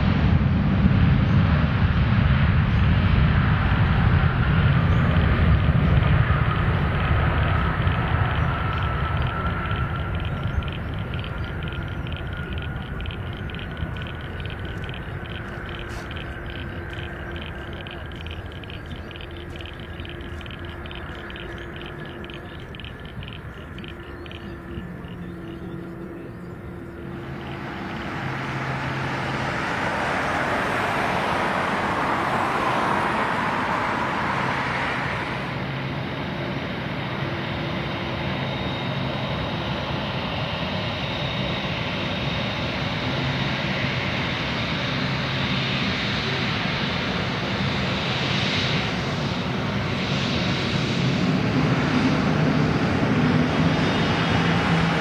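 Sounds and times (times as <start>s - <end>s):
jet airliner taking off: 0.0s - 55.0s
jet engines taxiing with high whine: 0.0s - 55.0s.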